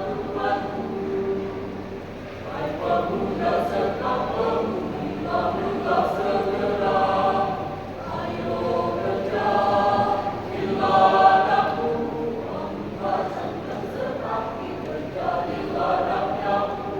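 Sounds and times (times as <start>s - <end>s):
youth choir singing: 0.0s - 16.9s.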